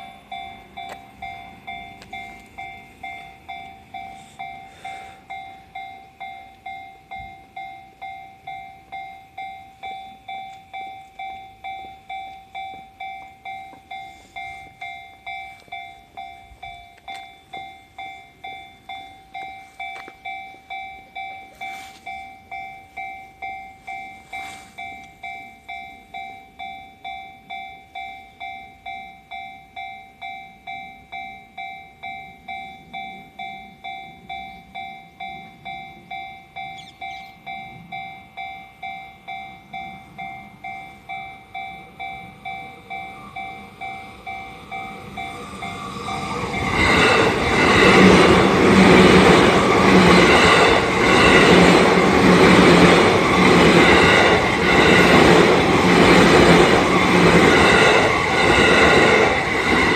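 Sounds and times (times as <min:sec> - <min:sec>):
electric train passing: 0:00.0 - 0:59.9
level-crossing warning bell: 0:00.0 - 0:59.9.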